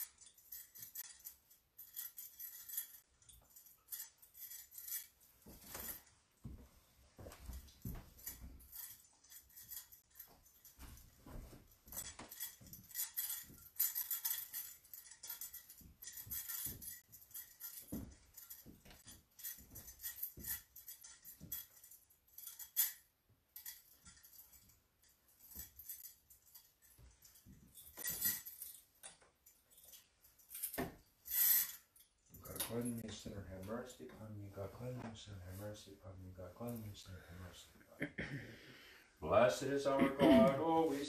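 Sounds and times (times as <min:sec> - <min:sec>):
censer jingling on chains: 0:00.0 - 0:06.2, 0:07.2 - 0:37.1.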